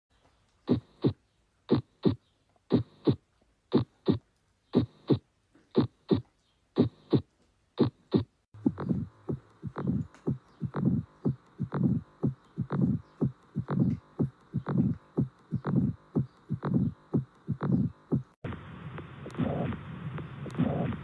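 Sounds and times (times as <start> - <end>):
steady background noise: 0.3 - 21.0
heartbeat: 0.7 - 4.2, 4.8 - 5.2, 5.8 - 21.0.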